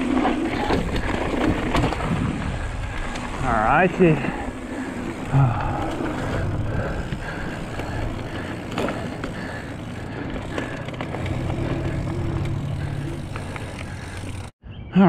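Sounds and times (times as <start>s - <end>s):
bike frame rattling: 0.0s - 14.5s
bike tyres rumbling on dirt: 0.0s - 14.5s.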